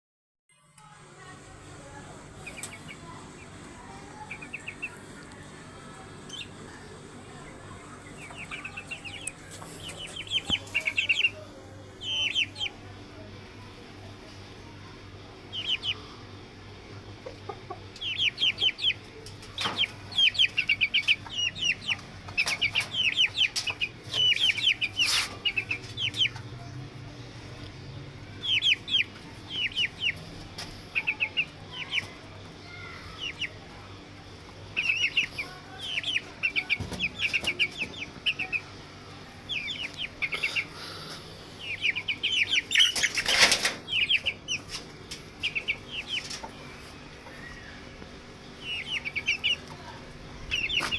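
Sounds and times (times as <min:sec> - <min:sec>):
low steady hum: 0:00.5 - 0:50.9
birds chirping: 0:01.2 - 0:50.9.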